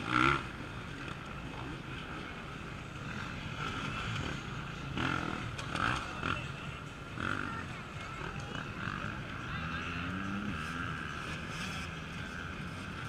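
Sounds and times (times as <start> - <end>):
faint motorcycle engines: 0.0 - 13.0.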